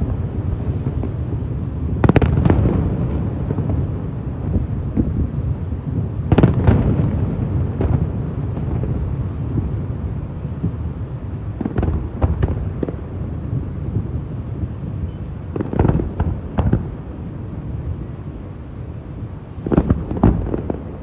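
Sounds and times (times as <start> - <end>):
fireworks sharp cracks: 0.0 - 17.9, 19.4 - 21.0
fireworks bursts rumbling: 0.0 - 21.0.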